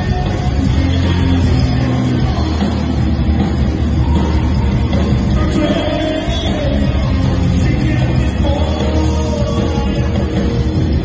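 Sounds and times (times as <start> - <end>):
bass guitar: 0.0 - 11.0
drums: 0.0 - 11.0
electric guitars: 0.0 - 11.0.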